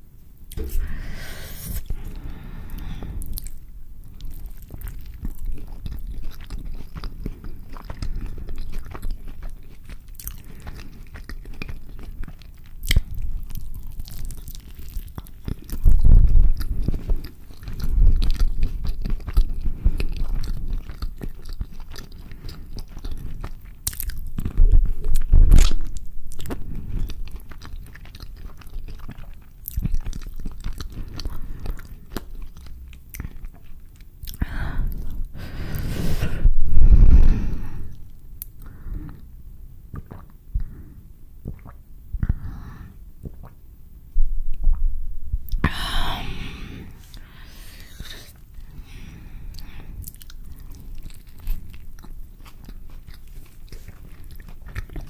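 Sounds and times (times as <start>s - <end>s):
person biting and chewing food: 0.4s - 36.9s, 39.9s - 40.4s, 46.4s - 55.0s
wet mouth sounds: 0.5s - 43.6s, 44.5s - 55.0s.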